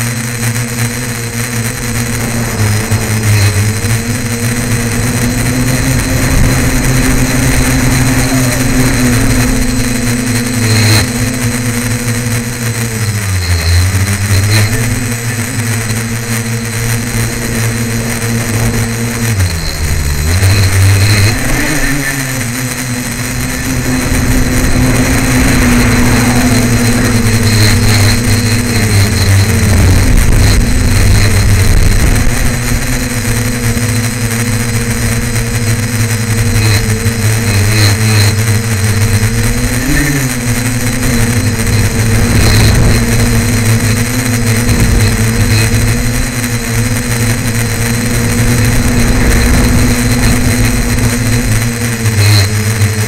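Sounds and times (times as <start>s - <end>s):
drone motors and propellers humming: 0.0s - 53.0s.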